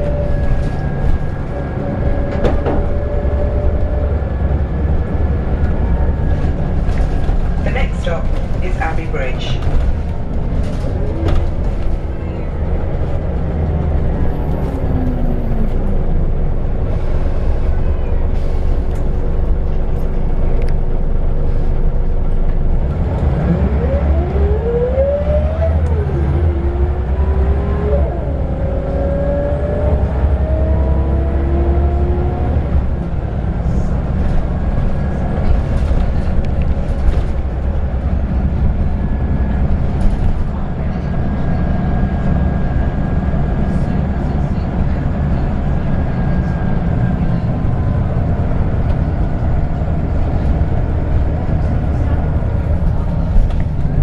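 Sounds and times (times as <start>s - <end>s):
bus diesel engine revving: 0.0s - 8.6s, 9.4s - 54.0s
steady low rumble: 0.0s - 23.8s, 31.9s - 54.0s.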